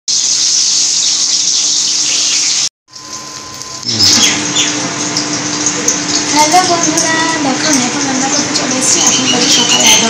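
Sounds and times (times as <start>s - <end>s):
food sizzling in hot oil: 0.1s - 10.0s.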